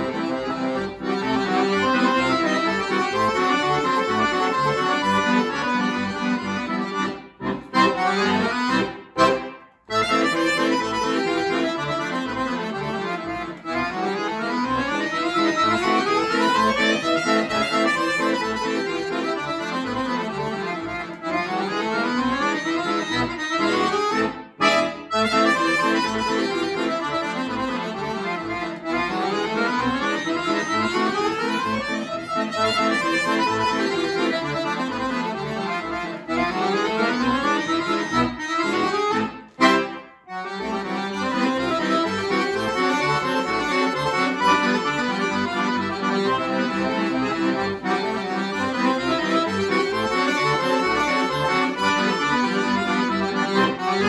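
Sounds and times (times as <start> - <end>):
button accordion playing: 0.0 - 54.0.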